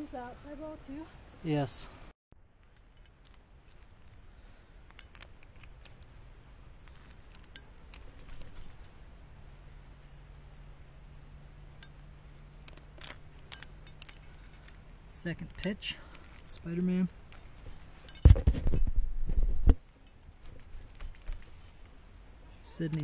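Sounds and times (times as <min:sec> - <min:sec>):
climbing gear clinking: 0:02.6 - 0:19.0, 0:19.8 - 0:23.0.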